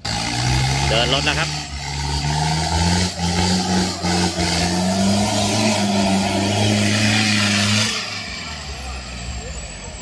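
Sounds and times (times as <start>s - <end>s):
buggy engine revving hard: 0.0s - 10.0s.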